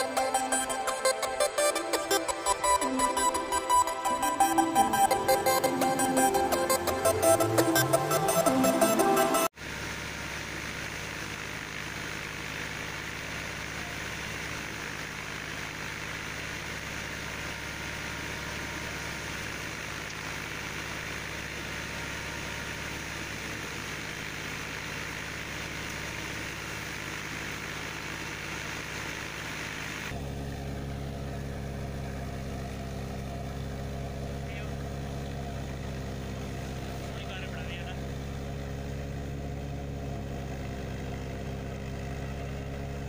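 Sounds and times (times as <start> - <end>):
engine hum: 0.0 - 43.0.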